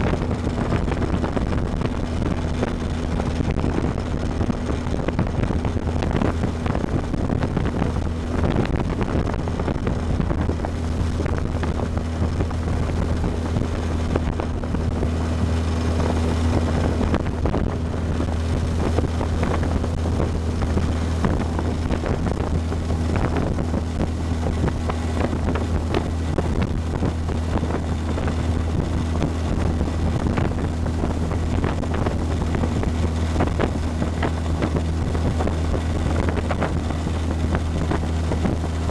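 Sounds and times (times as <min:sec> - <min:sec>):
motorboat engine humming: 0:00.0 - 0:38.9
water rushing against hull: 0:00.0 - 0:38.9
wind buffeting microphone: 0:00.0 - 0:38.9.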